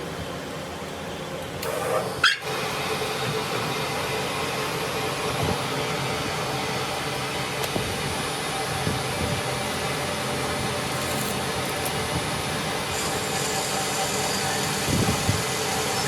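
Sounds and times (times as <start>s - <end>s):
workshop machine hum and hiss: 0.0s - 16.0s.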